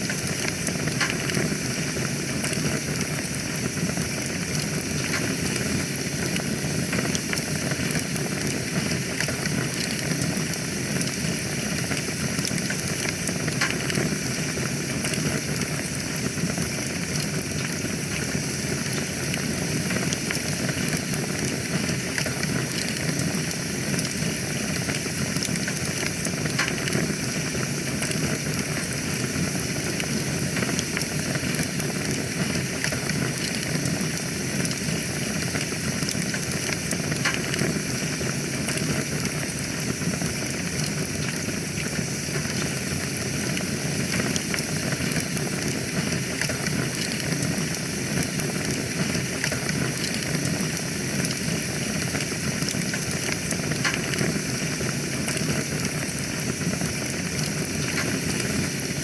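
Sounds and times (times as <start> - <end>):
fire crackling and popping: 0.0 - 59.0
wood fire burning: 0.0 - 59.0.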